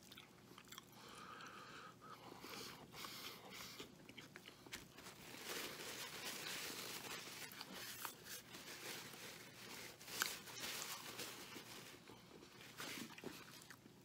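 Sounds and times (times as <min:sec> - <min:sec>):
man chewing food: 0:00.0 - 0:14.0.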